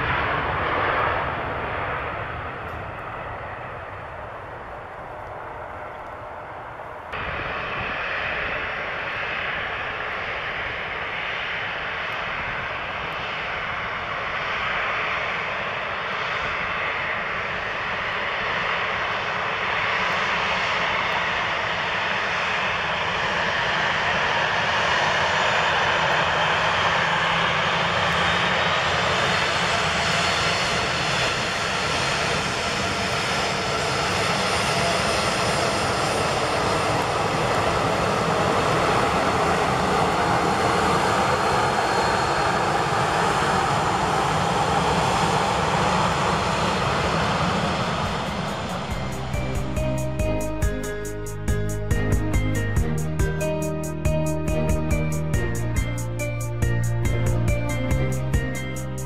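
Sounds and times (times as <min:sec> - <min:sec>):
jet engines at taxi power: 0:00.0 - 0:53.6.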